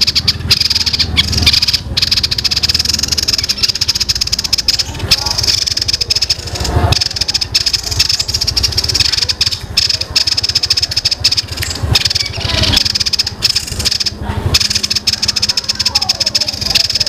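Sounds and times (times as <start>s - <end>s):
songbird chattering song: 0.0s - 17.0s.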